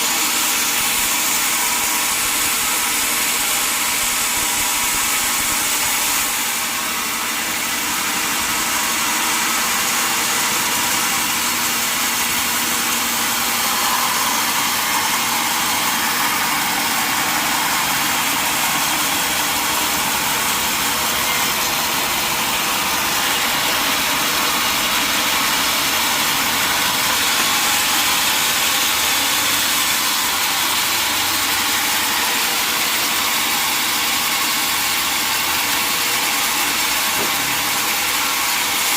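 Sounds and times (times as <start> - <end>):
log saw hissing: 0.0 - 35.3.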